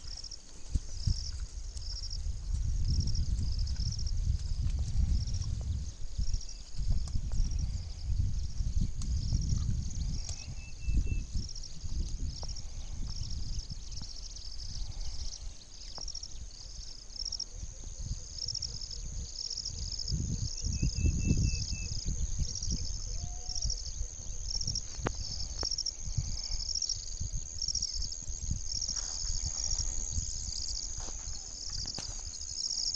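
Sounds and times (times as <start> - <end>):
low rumble on microphone: 0.0 - 15.7, 17.6 - 32.5
insects chirping: 0.0 - 32.9.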